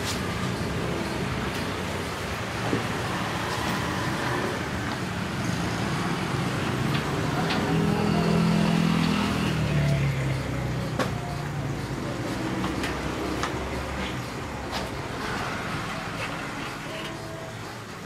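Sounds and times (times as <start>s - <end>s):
road traffic noise: 0.0s - 18.0s
vehicle engine: 0.0s - 18.0s.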